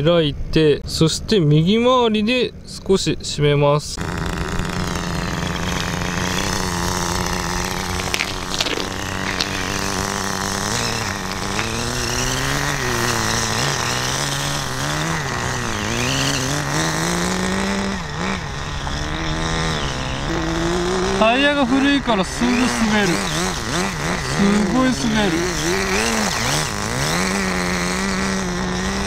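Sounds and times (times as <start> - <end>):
small model car engine running: 4.0 - 29.0.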